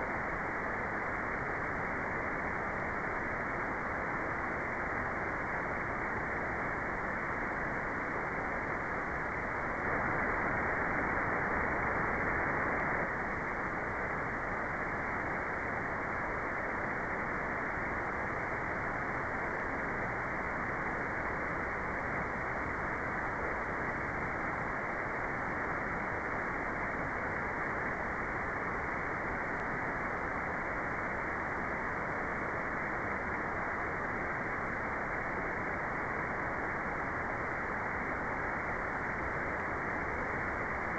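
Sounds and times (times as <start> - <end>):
muffled white noise hiss: 0.0 - 40.9.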